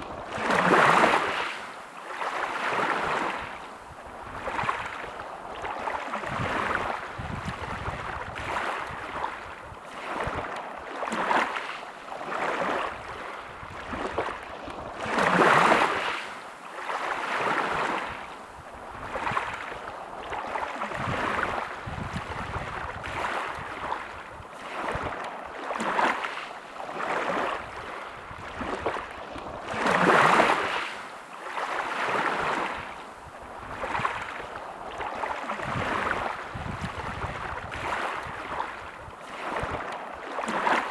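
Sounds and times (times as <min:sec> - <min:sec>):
larger waves breaking: 0:00.0 - 0:40.9
small waves washing ashore: 0:00.0 - 0:40.9.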